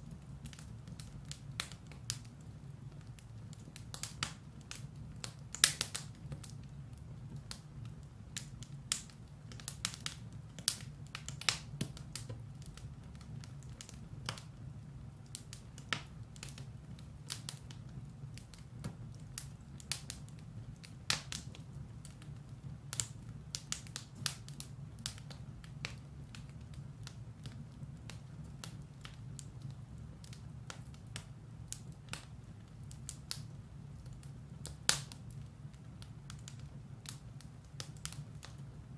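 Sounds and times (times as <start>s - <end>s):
firewood crackling and popping: 0.0s - 38.9s
low rumble of fire: 0.0s - 38.9s.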